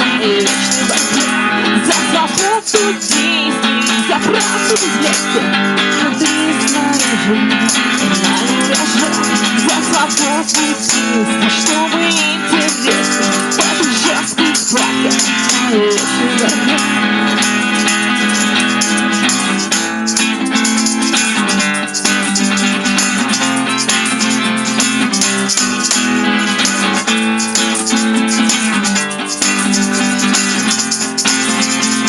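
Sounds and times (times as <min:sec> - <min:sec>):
live acoustic rock band: 0:00.0 - 0:32.0.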